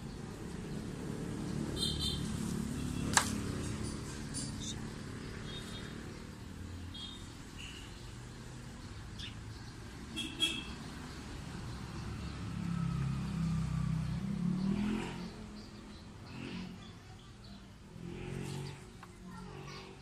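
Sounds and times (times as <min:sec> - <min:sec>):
vehicle engine passing by: 0:00.0 - 0:06.9, 0:10.8 - 0:20.0.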